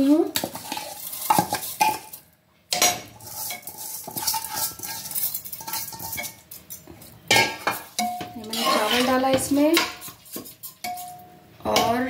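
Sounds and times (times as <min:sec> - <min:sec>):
steel spoon scraping pot: 0:00.4 - 0:12.0.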